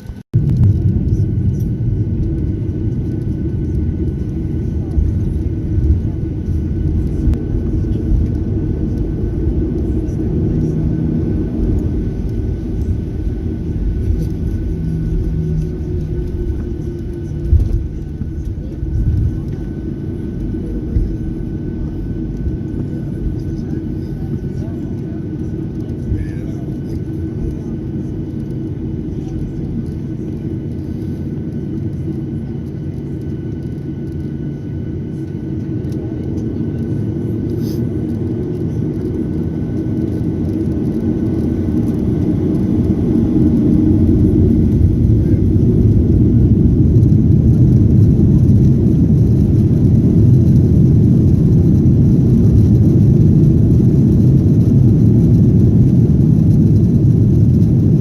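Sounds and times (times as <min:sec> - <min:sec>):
jet engines rumbling in cabin: 0:00.0 - 0:58.0.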